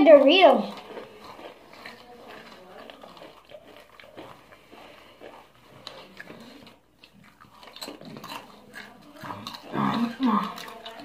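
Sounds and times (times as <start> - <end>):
chips crunching while chewed: 0.0 - 11.0.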